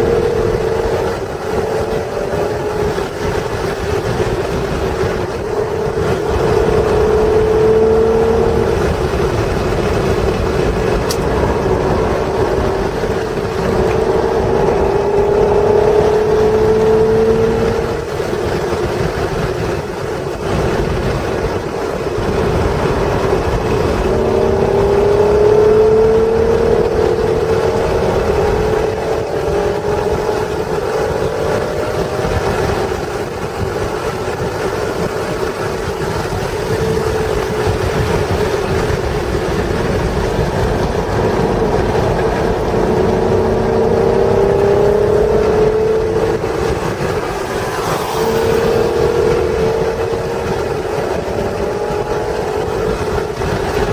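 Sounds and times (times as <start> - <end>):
car engine revving hard: 0.0 - 53.9
road and wind rumble: 0.0 - 53.9.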